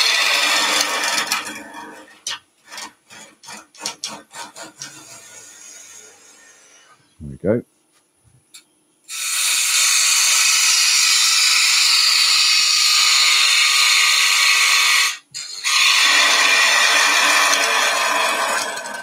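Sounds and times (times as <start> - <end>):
lathe gouge cutting wood: 0.0 - 2.1, 2.7 - 6.7, 9.1 - 19.0.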